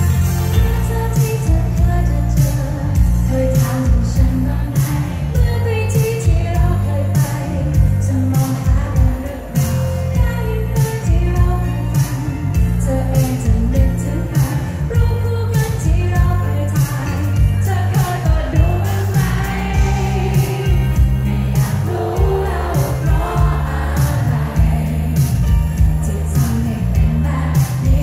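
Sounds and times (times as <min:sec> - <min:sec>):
live pop band playing: 0:00.0 - 0:28.0.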